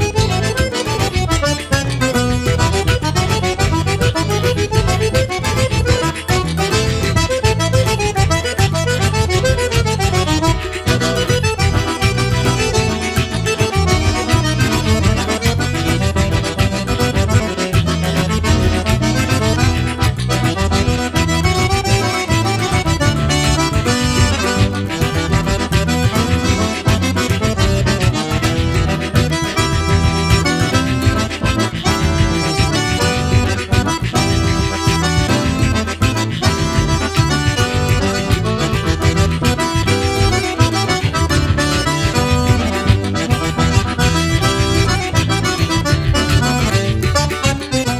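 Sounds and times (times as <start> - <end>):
accordion dance music: 0.0 - 47.9.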